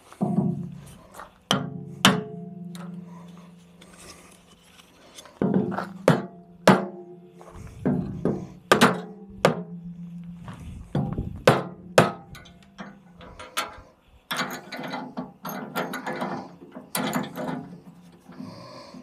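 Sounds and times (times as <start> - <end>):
metal rattling and grating: 0.0 - 19.0.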